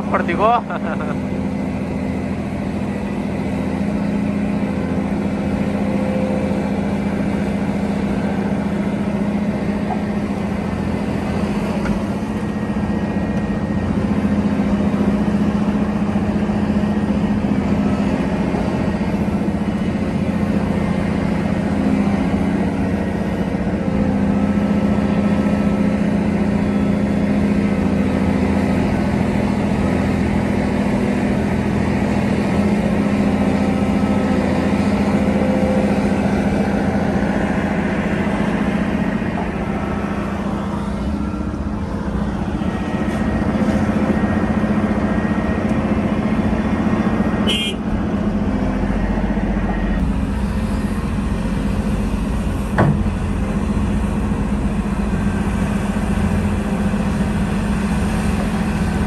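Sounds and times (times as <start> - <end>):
excavator diesel engine droning: 0.0 - 59.0.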